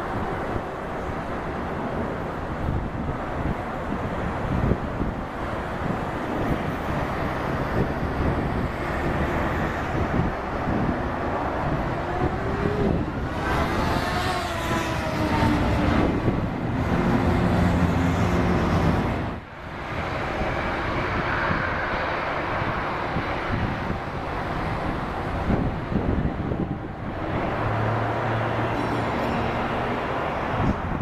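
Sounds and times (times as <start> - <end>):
jet airliner roar: 0.0 - 31.0.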